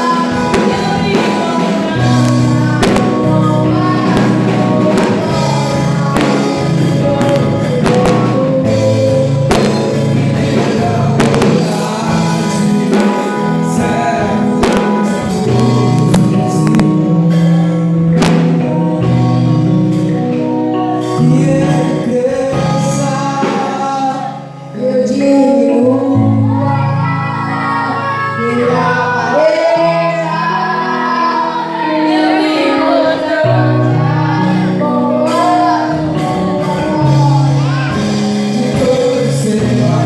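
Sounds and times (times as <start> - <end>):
women singing a hymn: 0.0 - 19.5, 20.8 - 40.0
instrumental accompaniment: 0.0 - 40.0.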